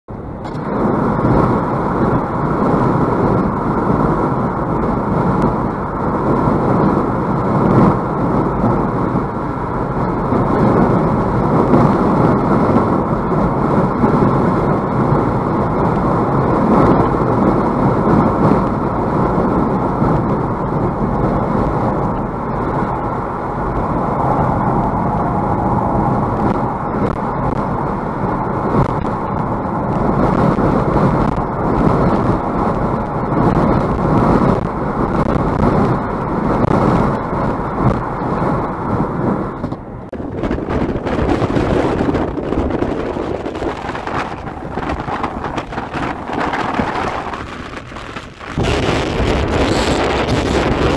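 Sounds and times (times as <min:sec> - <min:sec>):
car road and wind noise: 0:00.1 - 0:50.9.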